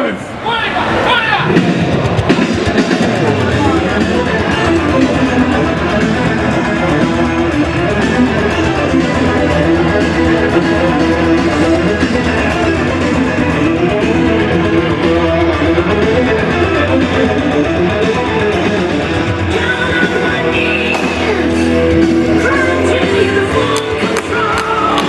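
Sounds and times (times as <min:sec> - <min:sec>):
guitar-driven music: 0:01.5 - 0:25.0.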